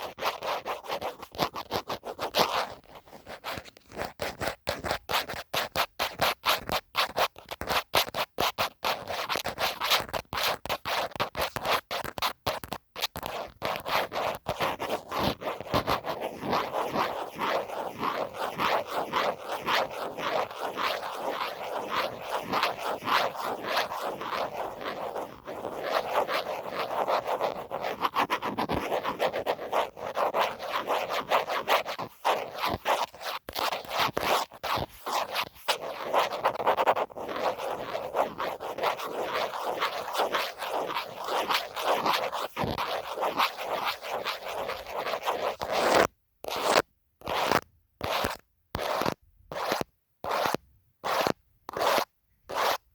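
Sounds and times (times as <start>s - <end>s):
phone case being scratched: 0.0s - 52.9s.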